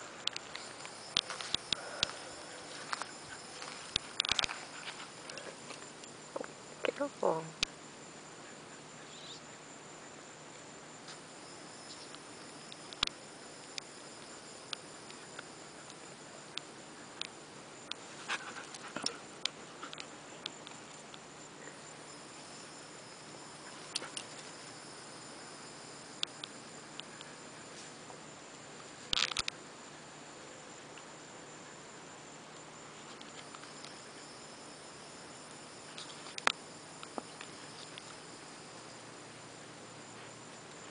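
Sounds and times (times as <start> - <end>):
high insect trill: 0.0 - 40.9.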